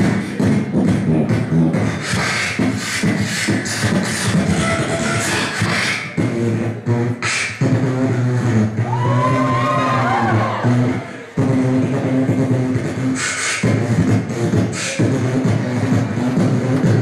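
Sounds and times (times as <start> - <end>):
person beatboxing into microphone: 0.0 - 17.0.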